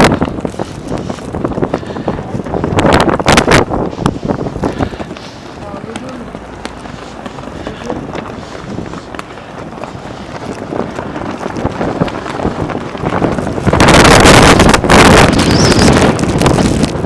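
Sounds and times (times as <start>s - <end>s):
blizzard wind buffeting microphone: 0.0s - 17.0s.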